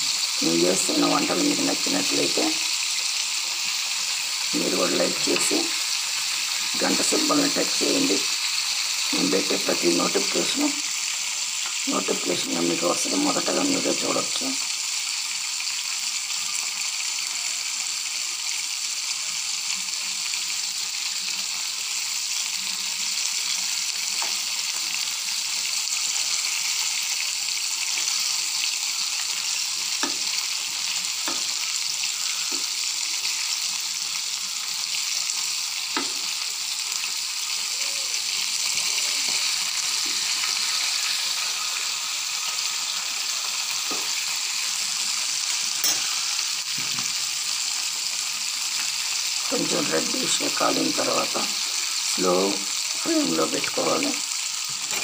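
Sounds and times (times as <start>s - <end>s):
chicken sizzling in hot oil: 0.0s - 55.0s.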